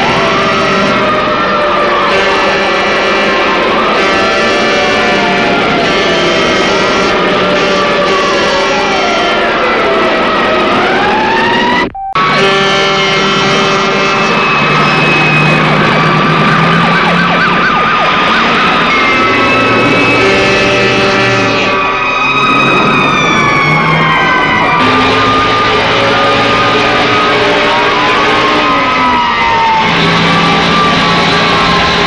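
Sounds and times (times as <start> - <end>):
fire engine sirens wailing: 0.0 - 32.0.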